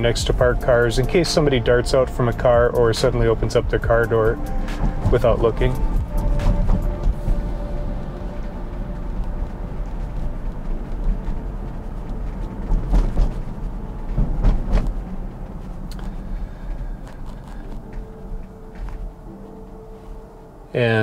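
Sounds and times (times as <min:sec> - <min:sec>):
tyre rumble inside car: 0:00.0 - 0:19.2.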